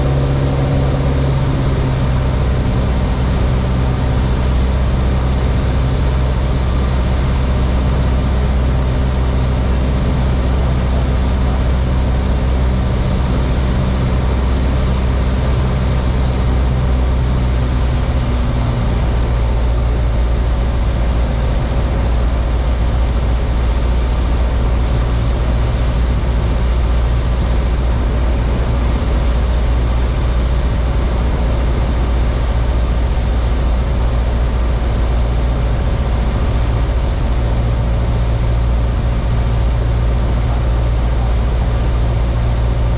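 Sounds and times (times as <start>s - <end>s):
aircraft engine and propeller droning: 0.0s - 42.9s.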